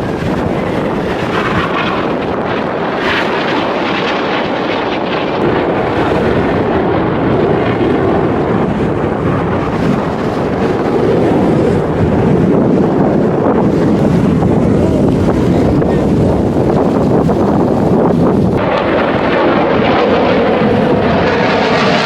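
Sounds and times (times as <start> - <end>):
aircraft engine rush: 0.0 - 22.0
wind buffeting microphone: 0.0 - 22.0.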